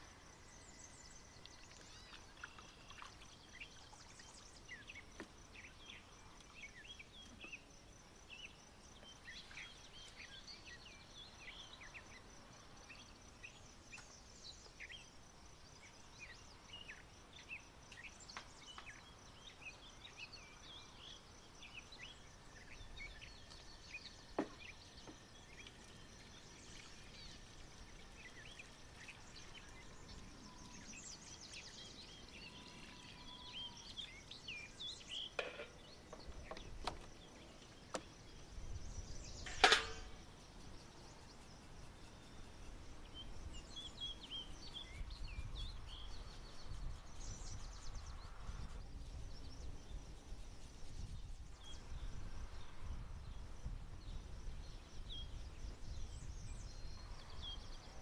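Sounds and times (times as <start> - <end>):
faint birds chirping: 0.0 - 58.0.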